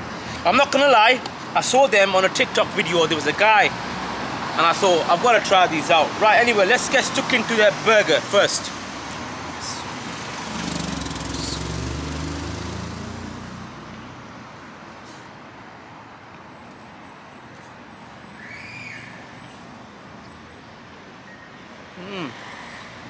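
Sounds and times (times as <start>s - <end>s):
low traffic hum: 0.0s - 23.0s.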